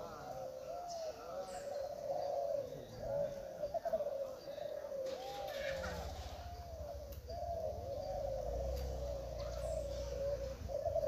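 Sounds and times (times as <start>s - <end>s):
doves cooing: 0.0s - 11.0s.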